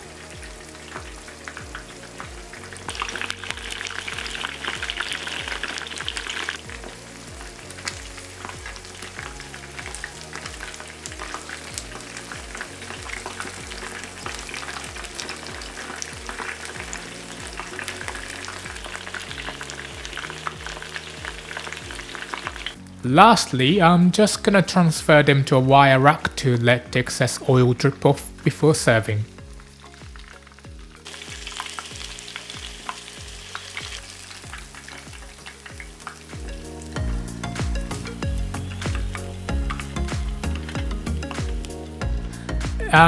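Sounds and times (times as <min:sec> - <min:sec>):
chicken frying in oil: 0:00.0 - 0:43.0.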